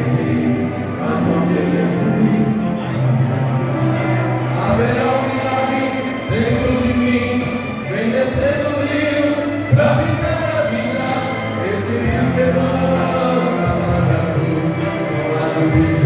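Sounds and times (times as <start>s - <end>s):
band accompaniment: 0.0s - 16.0s
sustained bass notes: 0.0s - 16.0s
voices singing: 0.0s - 16.0s.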